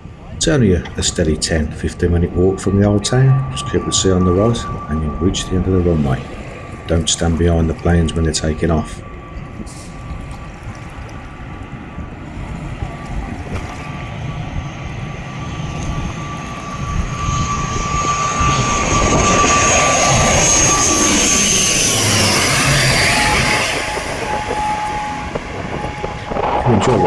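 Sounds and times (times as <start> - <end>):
airliner engines whining overhead: 0.0 - 27.0.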